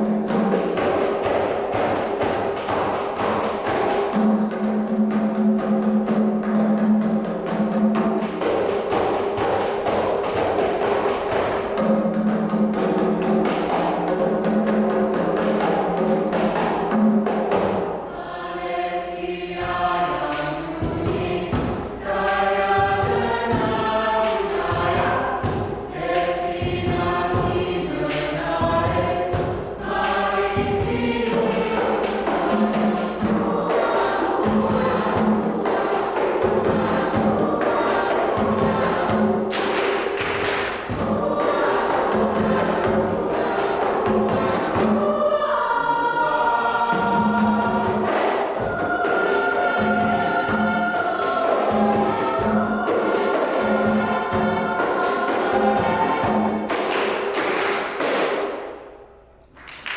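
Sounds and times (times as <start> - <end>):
hand drums beating: 0.0 - 18.0, 19.5 - 58.7
choir singing in parts: 0.0 - 59.0.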